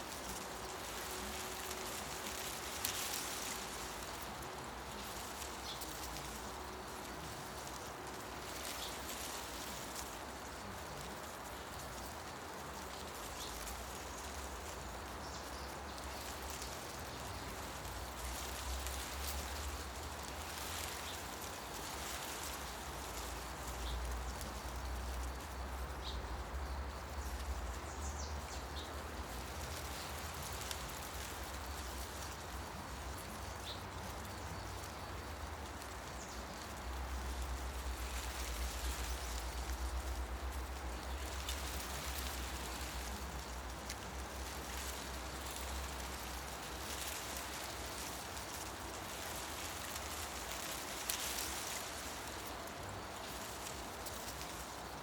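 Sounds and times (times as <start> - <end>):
wind rustling tree leaves: 0.0 - 55.0.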